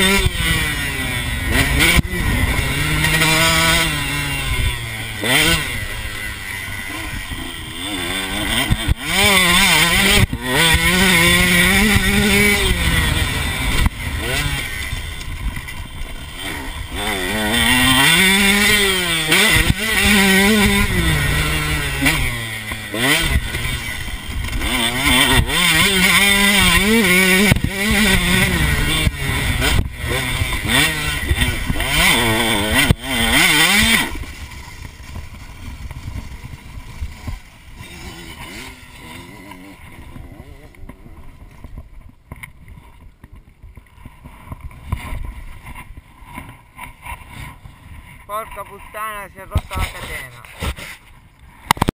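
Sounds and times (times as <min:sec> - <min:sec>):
two-stroke motocross engine revving: 0:00.0 - 0:43.3, 0:44.2 - 0:51.9
faint wind: 0:00.0 - 0:51.9.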